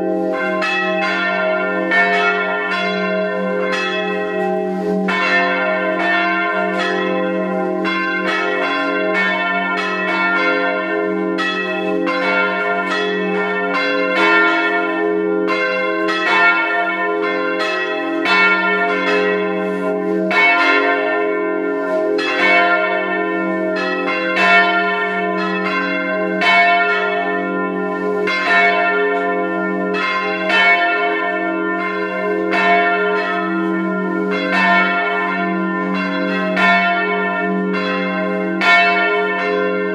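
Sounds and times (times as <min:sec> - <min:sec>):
church bells ringing: 0:00.0 - 0:39.9
low hum from bells: 0:00.0 - 0:39.9.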